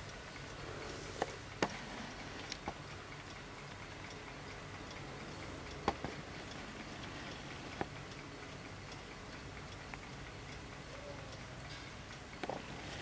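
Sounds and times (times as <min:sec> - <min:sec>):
wall clock ticking: 0:00.0 - 0:13.0
sharp clock clicks: 0:01.2 - 0:13.0.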